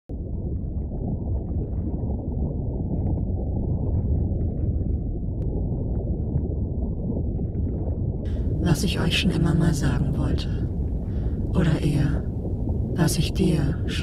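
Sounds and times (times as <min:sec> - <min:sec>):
deep muffled rumble: 0:00.1 - 0:14.0.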